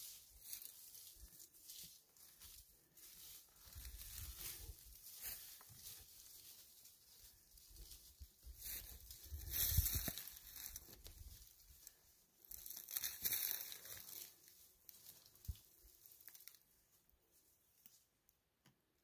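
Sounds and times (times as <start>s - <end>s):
dry leaves rustling and crackling: 0.0s - 16.7s.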